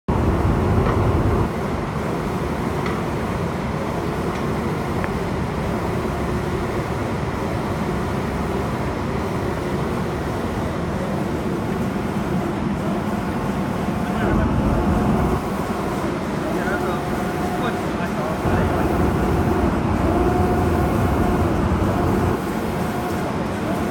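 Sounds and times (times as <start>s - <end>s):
machine humming and rumbling: 0.1s - 23.9s.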